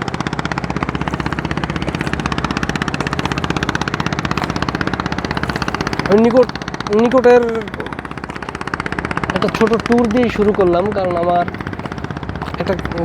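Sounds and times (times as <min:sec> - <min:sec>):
boat engine chugging: 0:00.0 - 0:13.0.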